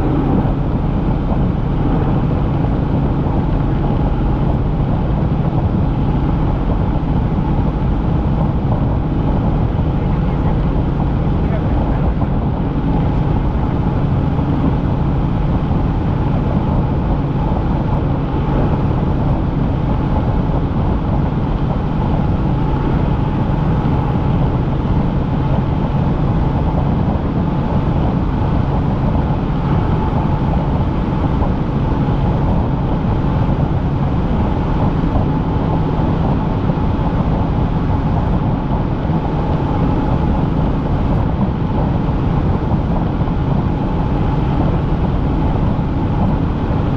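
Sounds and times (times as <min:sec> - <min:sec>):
helicopter engine and rotors: 0:00.0 - 0:46.9.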